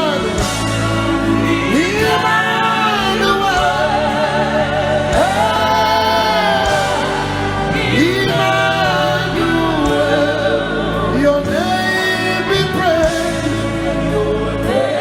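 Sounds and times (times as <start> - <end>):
bass: 0.0 - 15.0
congregation singing along: 0.0 - 15.0
gospel singing with vibrato: 0.0 - 15.0
sustained keyboard chords: 0.0 - 15.0.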